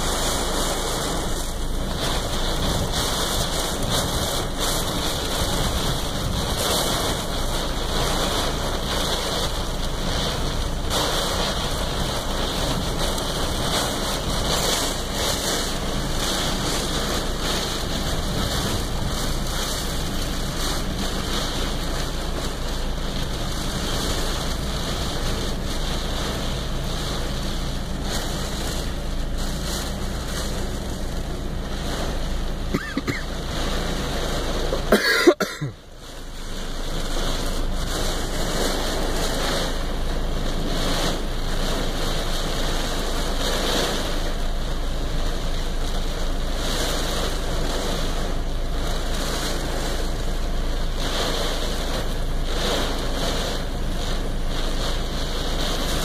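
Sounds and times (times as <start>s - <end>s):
heavy rain on car roof: 0.0s - 56.0s
wind: 0.0s - 56.0s.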